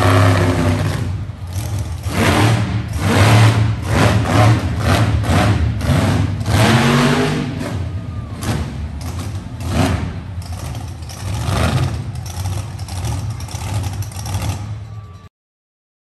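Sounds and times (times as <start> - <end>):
monster truck engine revving: 0.0 - 15.3.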